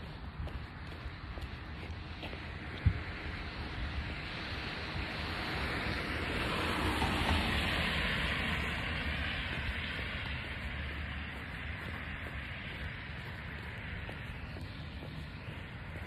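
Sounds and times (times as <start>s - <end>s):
wind rumble on microphone: 0.0s - 16.0s
tyre hiss on wet road: 2.0s - 16.0s.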